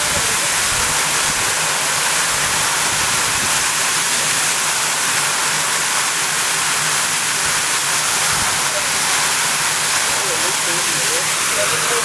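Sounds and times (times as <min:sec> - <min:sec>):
water jet gushing: 0:00.0 - 0:12.0.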